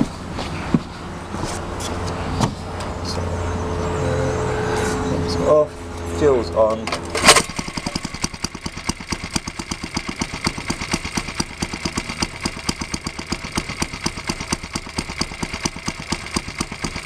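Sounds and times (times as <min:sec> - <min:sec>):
small petrol engine running: 0:03.0 - 0:17.0.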